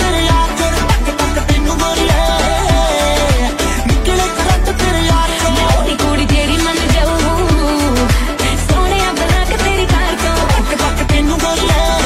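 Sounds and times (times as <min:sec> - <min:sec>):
pop song with bass-drum beat: 0:00.0 - 0:12.0.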